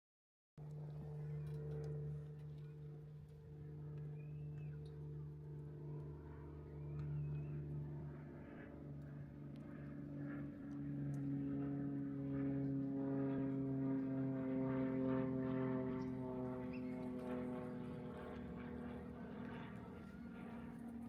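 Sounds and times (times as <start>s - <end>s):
distant engine drone: 0.6s - 21.0s.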